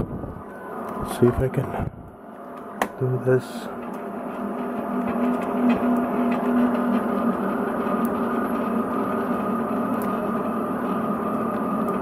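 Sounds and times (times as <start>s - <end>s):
printer motors humming: 0.0s - 12.0s.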